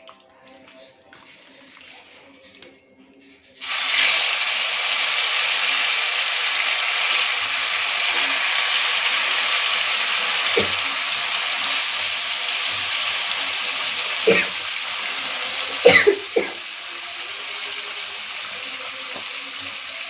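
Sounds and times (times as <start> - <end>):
chicken sizzling in hot oil: 3.6 - 20.0.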